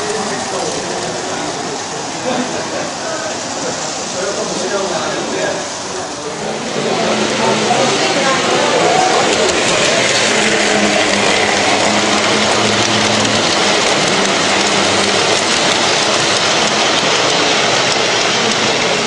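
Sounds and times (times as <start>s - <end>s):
toy train rolling rattle: 0.0s - 19.0s.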